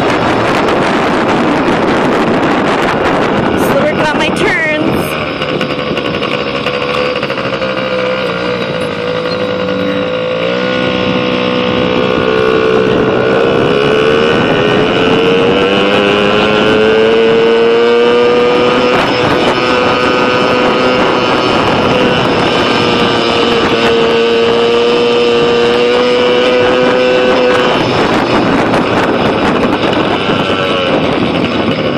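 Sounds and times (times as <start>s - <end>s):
small motorbike engine running: 0.0s - 31.9s.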